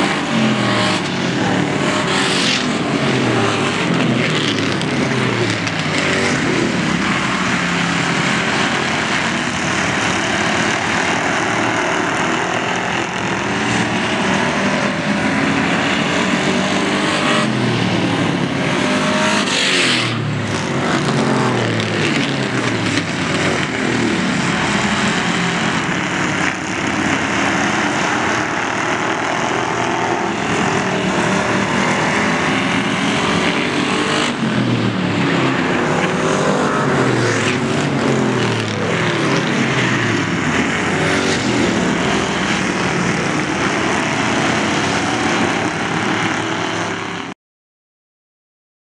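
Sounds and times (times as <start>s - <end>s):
race car engines accelerating: 0.0s - 47.3s.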